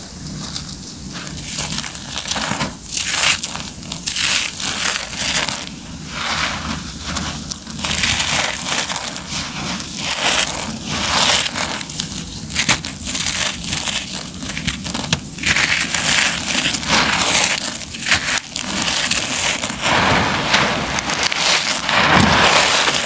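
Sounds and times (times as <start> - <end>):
concrete and gravel crunching by hand: 1.2 - 23.0.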